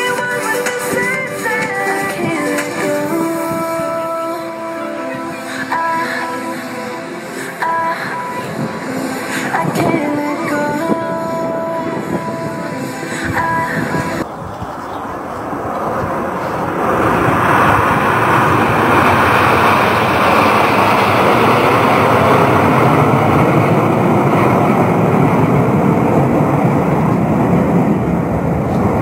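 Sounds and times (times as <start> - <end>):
aircraft engine roar: 0.0 - 29.0.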